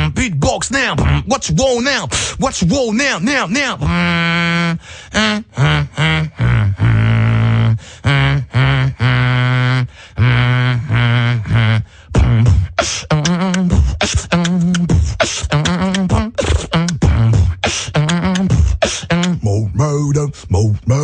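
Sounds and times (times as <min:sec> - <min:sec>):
beatboxing: 0:00.0 - 0:21.0.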